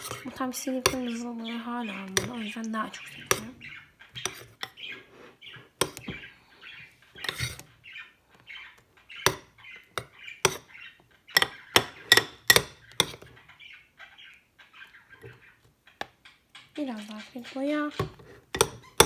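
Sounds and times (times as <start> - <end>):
spoon stirring squishy slime: 0.0 - 13.5, 16.8 - 19.0.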